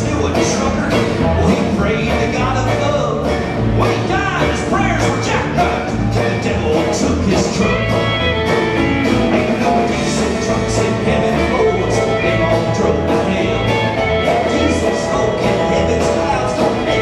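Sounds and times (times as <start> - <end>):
country band playing: 0.0 - 17.0
steady drum beat: 0.0 - 17.0.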